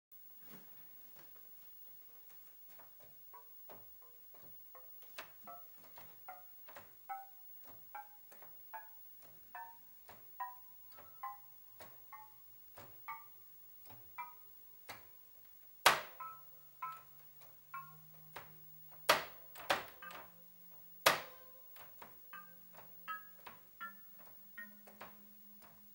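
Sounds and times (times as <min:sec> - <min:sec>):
quiet synthesizer notes: 0:00.2 - 0:25.9.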